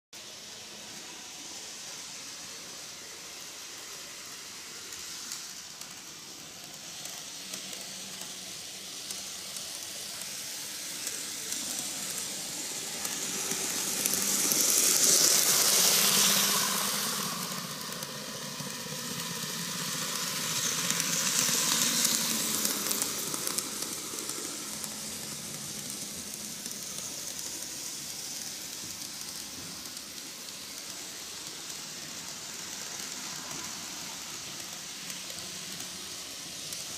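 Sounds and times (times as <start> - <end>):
model trains running on track: 0.2 - 36.9.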